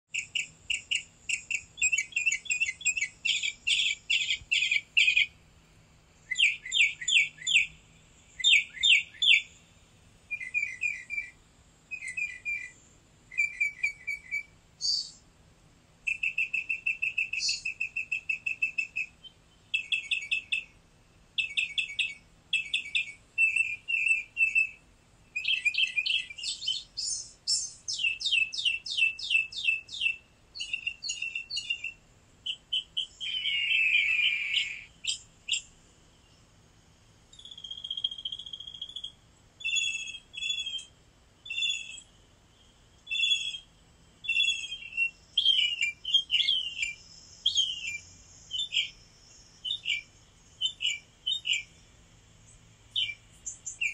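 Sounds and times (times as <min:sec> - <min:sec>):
songbird chirping trills: 0:00.1 - 0:53.9.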